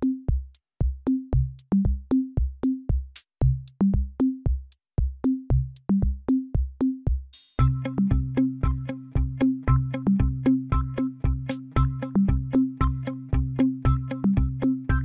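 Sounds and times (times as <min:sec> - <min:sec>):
electronic drum-machine beat: 0:00.0 - 0:15.0.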